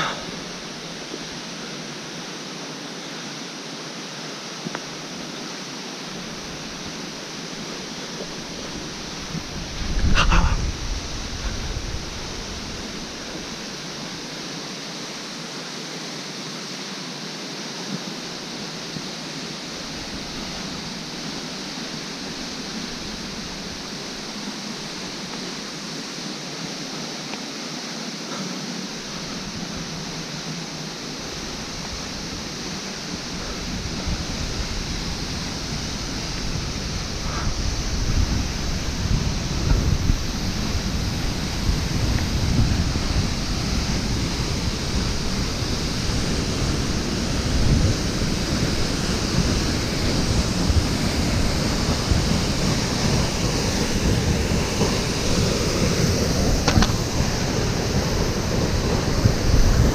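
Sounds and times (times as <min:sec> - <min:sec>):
waterfall rushing water: 0:00.0 - 0:59.9.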